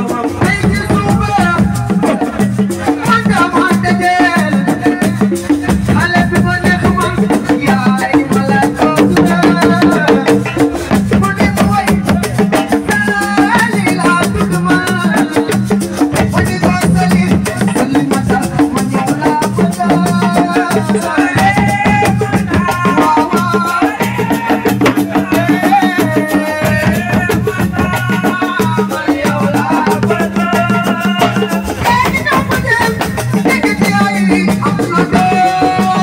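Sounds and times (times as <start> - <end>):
live band with fast drumming: 0.0 - 36.0.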